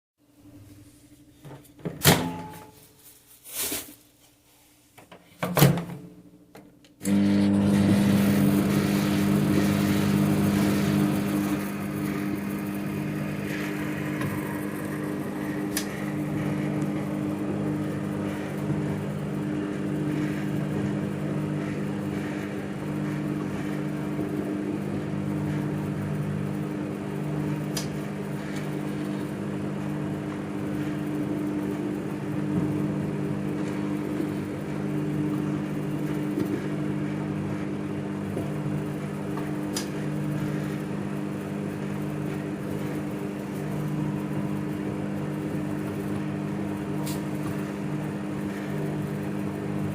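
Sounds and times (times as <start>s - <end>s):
microwave oven humming: 0.3s - 3.1s, 5.2s - 49.9s.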